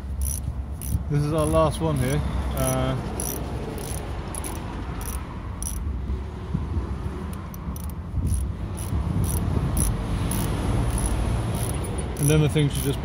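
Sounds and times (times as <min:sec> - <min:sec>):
socket ratchet clicking: 0:00.0 - 0:05.9, 0:07.3 - 0:13.0.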